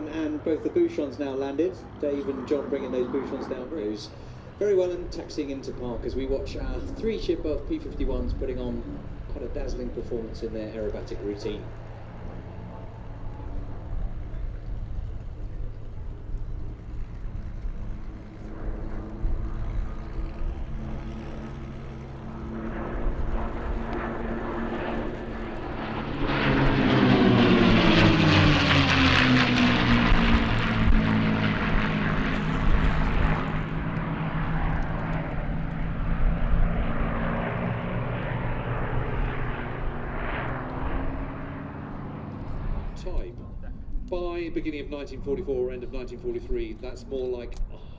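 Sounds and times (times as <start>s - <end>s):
propeller aircraft engines droning: 0.0s - 47.9s.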